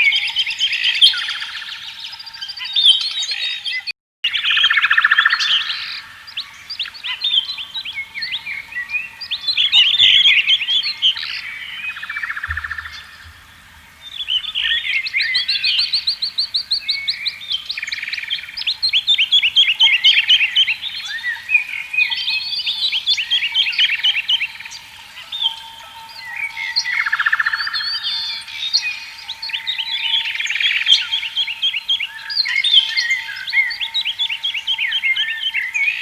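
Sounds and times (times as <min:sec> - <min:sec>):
songbirds chirping and trilling: 0:00.0 - 0:36.0.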